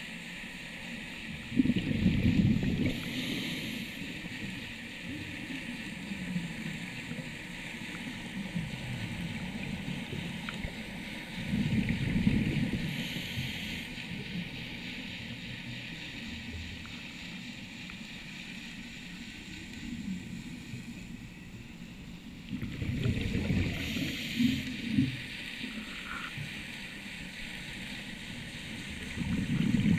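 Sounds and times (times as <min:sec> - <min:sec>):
muffled underwater rumble and gurgle: 0:00.0 - 0:29.9.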